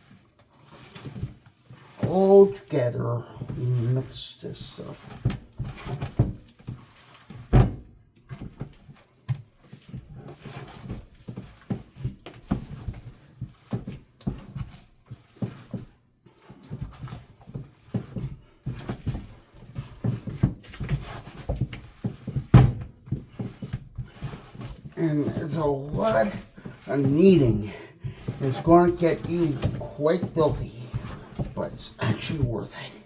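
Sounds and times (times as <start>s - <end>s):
hands squishing raw meat: 0.0s - 32.7s.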